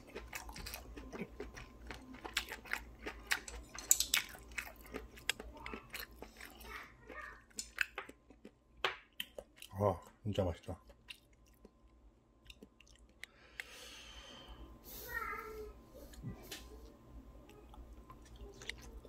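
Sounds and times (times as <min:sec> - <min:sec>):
person chewing with wet clicks: 0:00.0 - 0:13.7, 0:17.4 - 0:19.0.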